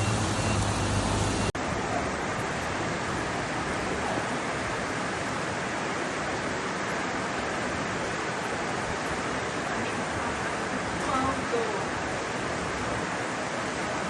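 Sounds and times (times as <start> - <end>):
rushing floodwater: 0.0 - 14.0.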